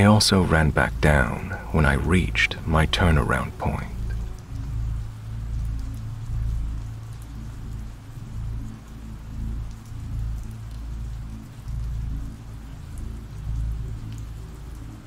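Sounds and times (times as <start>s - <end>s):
low dark music drone: 0.0s - 15.0s
steady rain patter: 0.0s - 15.0s.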